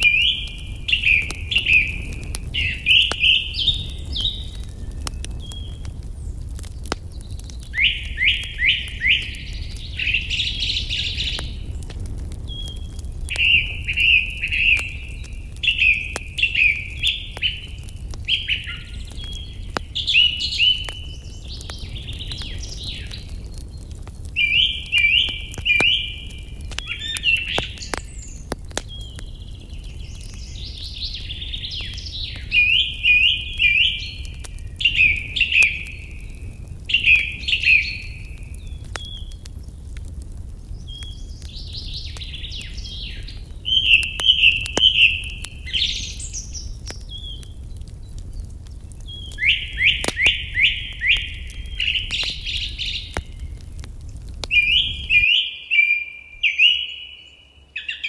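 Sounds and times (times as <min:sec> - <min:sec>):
wood fire crackling and popping: 0:00.0 - 0:57.6
songbirds singing: 0:00.0 - 0:58.0.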